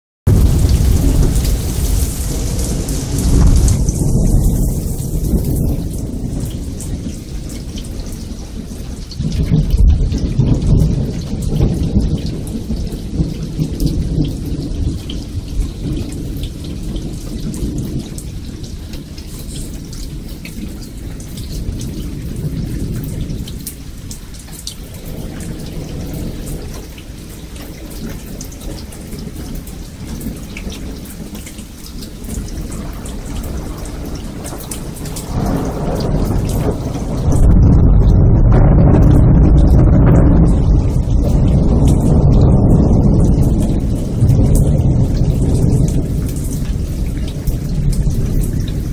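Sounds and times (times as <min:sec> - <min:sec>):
rolling thunder: 0:00.3 - 0:31.4, 0:32.0 - 0:48.9
rain falling: 0:00.3 - 0:48.9.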